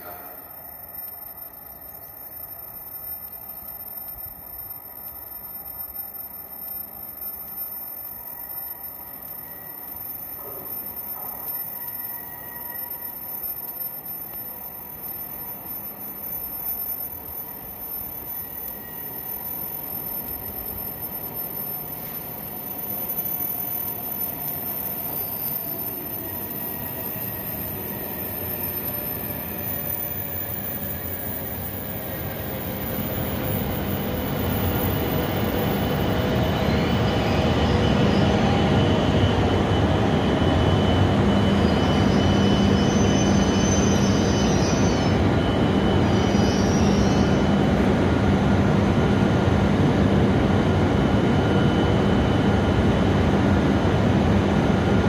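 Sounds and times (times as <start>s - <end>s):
faint high whine: 0.0s - 55.0s
train equipment humming: 0.0s - 55.0s.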